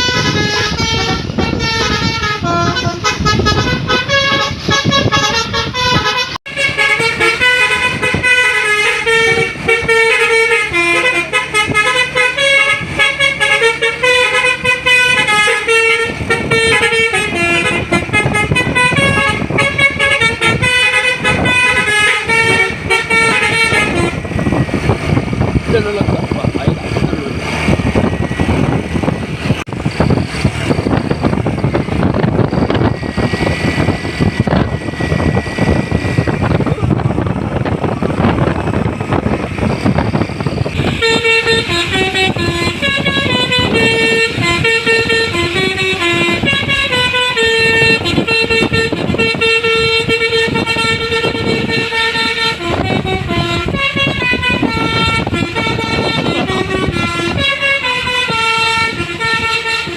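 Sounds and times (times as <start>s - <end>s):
bus musical horn tune: 0.0s - 59.9s
road and engine noise: 0.0s - 59.9s.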